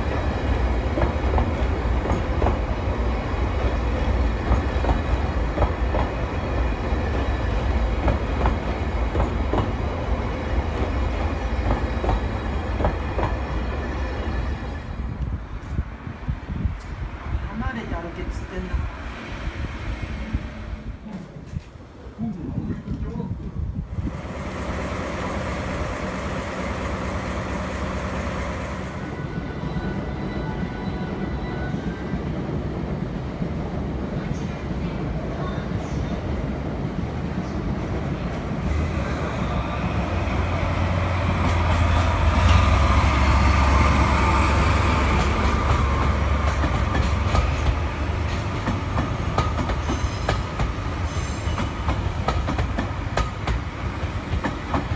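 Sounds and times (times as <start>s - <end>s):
diesel locomotive engine: 0.0s - 22.2s, 23.4s - 54.9s
train wheels rumbling on rails: 0.0s - 54.9s.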